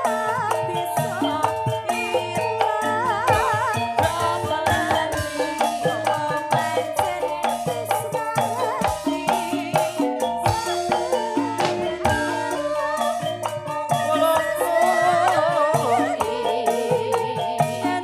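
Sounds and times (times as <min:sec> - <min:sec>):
drum rhythm: 0:00.0 - 0:18.0
melody with vibrato: 0:00.0 - 0:18.0.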